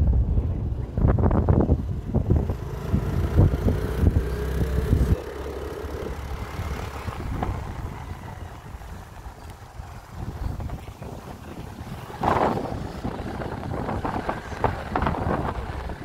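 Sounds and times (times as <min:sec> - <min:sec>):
wind buffeting microphone: 0:00.0 - 0:16.0
small vehicle engine running: 0:01.4 - 0:16.0.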